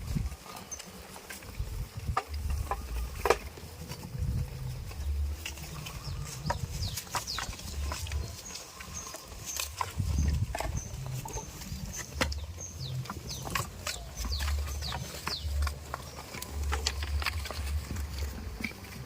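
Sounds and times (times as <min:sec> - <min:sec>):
animals clicking and knocking: 0:00.0 - 0:19.0
small birds chirping: 0:00.0 - 0:19.0.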